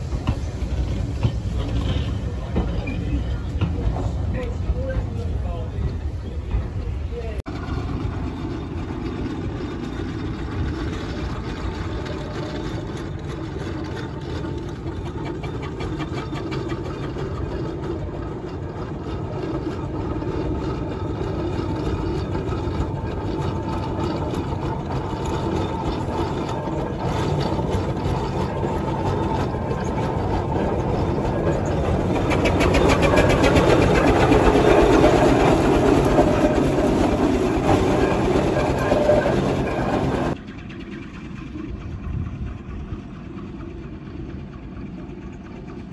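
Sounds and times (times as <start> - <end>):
steam engine exhaust beating: 0.0 - 45.9.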